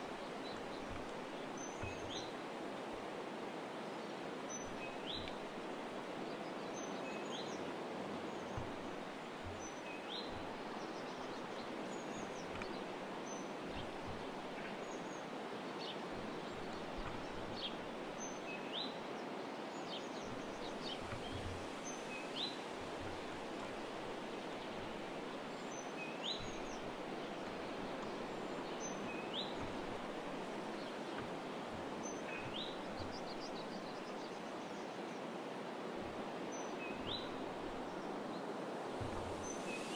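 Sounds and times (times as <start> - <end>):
small birds chirping: 0.0 - 2.4, 4.5 - 19.0, 19.7 - 35.0, 36.6 - 39.9
outdoor hiss: 0.0 - 34.3, 35.8 - 39.9.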